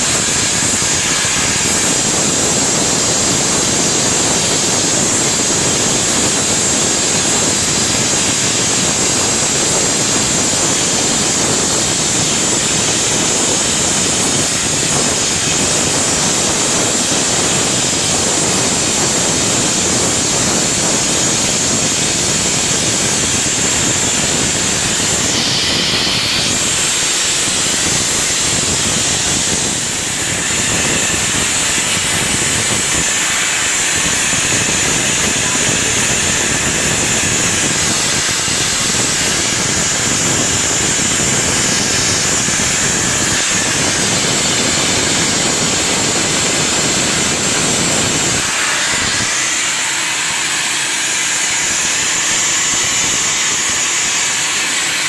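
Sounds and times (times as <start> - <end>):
gas burner flame hissing: 0.0 - 55.0.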